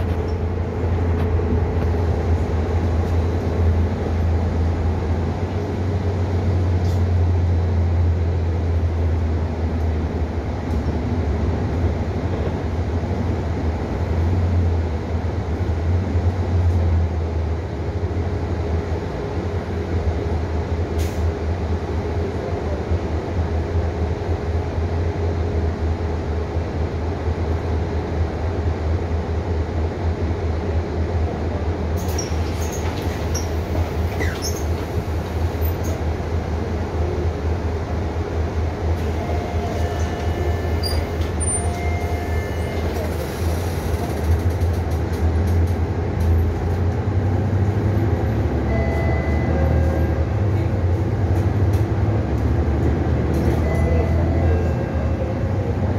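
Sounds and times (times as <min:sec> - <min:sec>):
bus engine and road rumble: 0:00.0 - 0:55.9.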